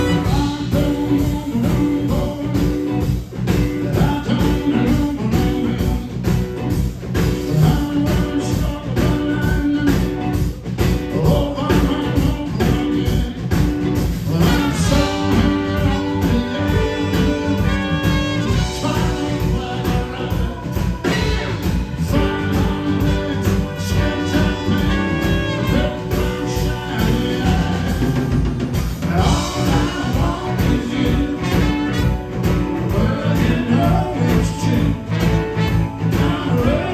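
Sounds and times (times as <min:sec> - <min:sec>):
blues-rock band playing live: 0:00.0 - 0:36.9.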